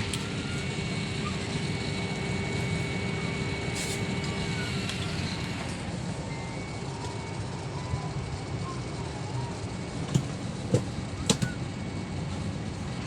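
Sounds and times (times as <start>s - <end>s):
faint steady whine: 0.0s - 13.0s
low rumble of engines and air: 0.0s - 13.0s.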